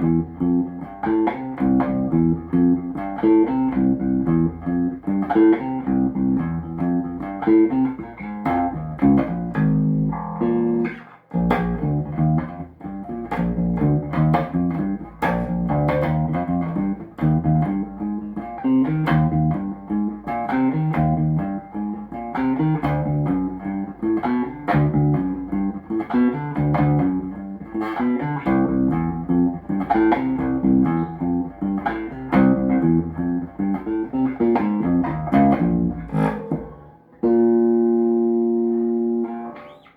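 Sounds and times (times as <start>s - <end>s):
electric bass plucked notes: 0.0s - 39.8s.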